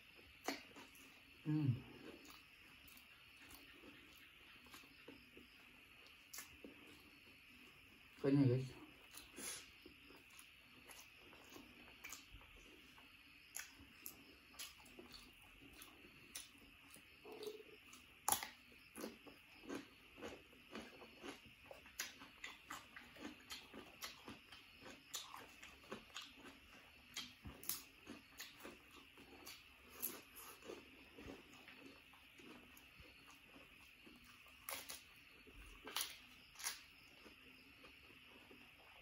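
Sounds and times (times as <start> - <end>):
person chewing food: 0.0 - 8.2, 8.8 - 39.0.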